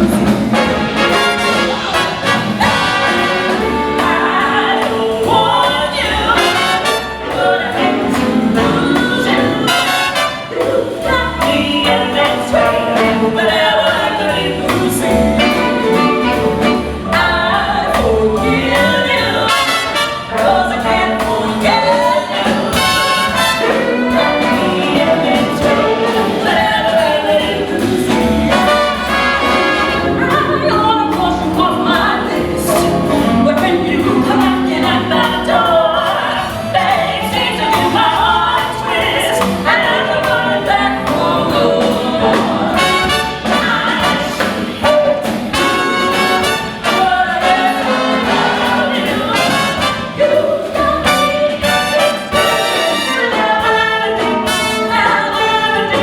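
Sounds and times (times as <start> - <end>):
big band jazz music: 0.0 - 56.0
voices singing: 0.0 - 56.0.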